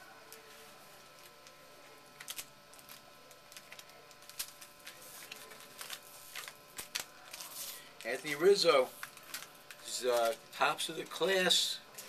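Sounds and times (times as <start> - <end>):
cards and wrappers crinkling: 0.3 - 12.0.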